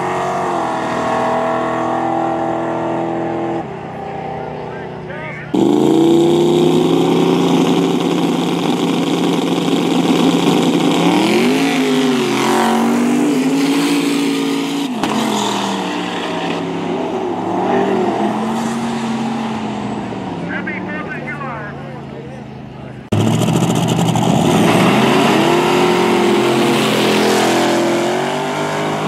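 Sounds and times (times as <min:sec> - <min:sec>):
race car engines roaring: 0:00.0 - 0:29.0.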